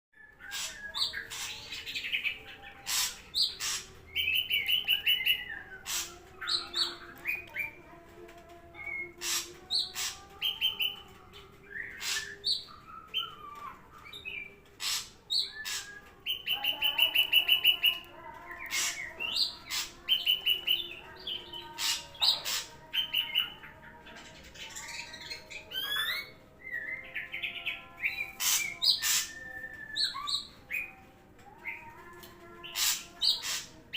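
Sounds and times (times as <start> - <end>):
bird singing varied song: 0.1 - 33.9.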